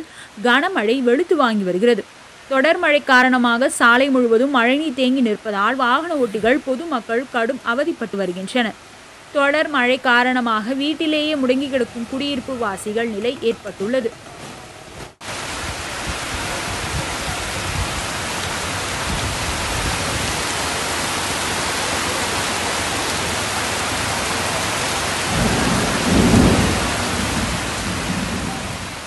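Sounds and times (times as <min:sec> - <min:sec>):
heavy rain pouring on a street: 0:00.0 - 0:29.0.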